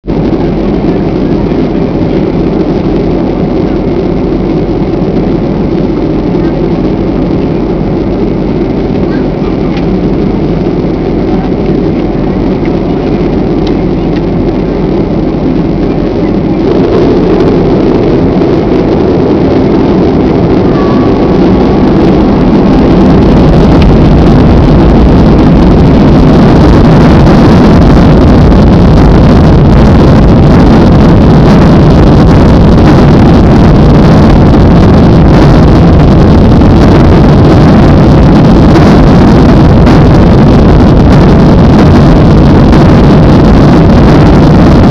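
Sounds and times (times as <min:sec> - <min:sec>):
airliner engines spooling up: 0:00.1 - 0:44.9.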